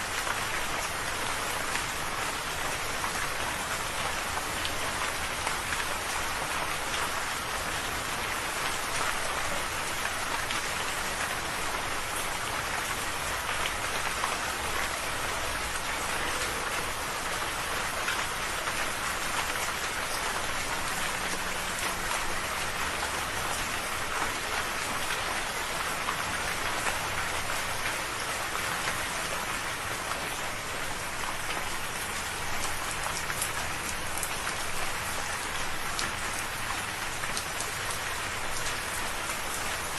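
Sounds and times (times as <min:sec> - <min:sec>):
raindrops pattering: 0:00.0 - 0:39.9
steady rain falling: 0:00.0 - 0:39.9.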